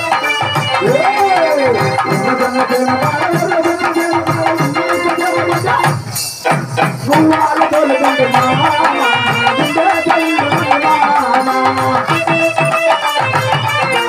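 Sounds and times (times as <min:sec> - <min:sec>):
electronic keyboard organ melody: 0:00.0 - 0:14.0
jingling ankle bells: 0:00.0 - 0:14.0.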